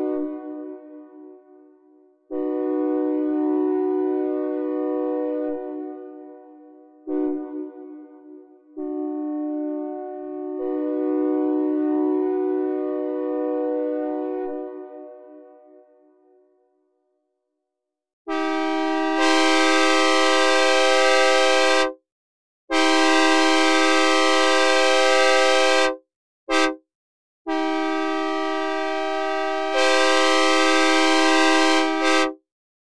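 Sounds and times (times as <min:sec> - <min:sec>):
three-chime locomotive horn: 0:00.0 - 0:01.7, 0:02.3 - 0:06.4, 0:07.0 - 0:15.8, 0:18.3 - 0:22.0, 0:22.7 - 0:26.8, 0:27.5 - 0:32.4.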